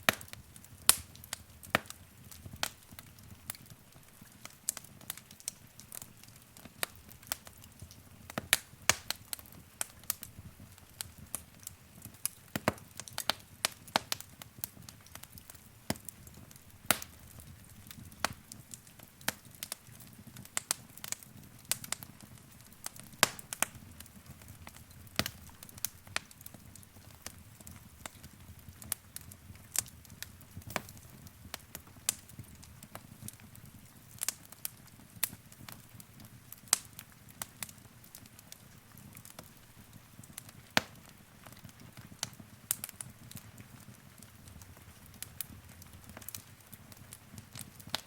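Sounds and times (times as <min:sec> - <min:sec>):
fire crackling with pops: 0:00.0 - 0:48.0.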